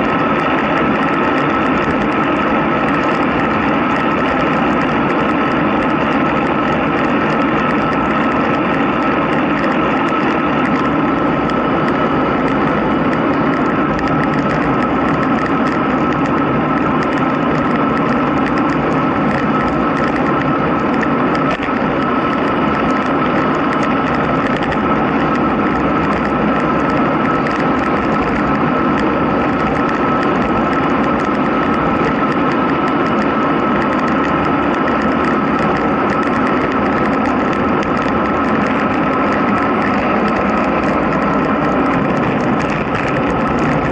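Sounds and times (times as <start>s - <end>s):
thin steady whine: 0.0s - 43.9s
tyre noise on asphalt: 0.0s - 43.9s
wind rushing over microphone: 0.0s - 43.9s.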